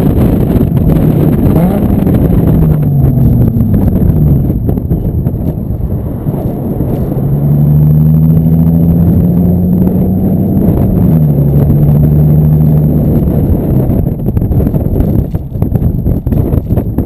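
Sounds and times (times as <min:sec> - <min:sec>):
car exhaust deep drone: 0:00.0 - 0:17.0.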